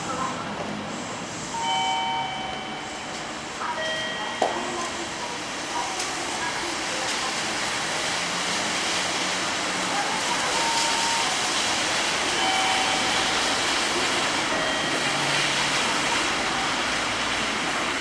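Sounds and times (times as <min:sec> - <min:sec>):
wet street hiss: 0:00.0 - 0:03.6, 0:04.6 - 0:18.0.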